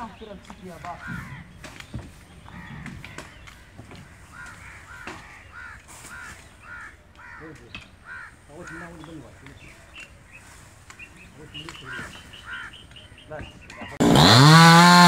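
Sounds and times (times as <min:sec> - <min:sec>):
bird harsh calls: 0:00.0 - 0:14.6.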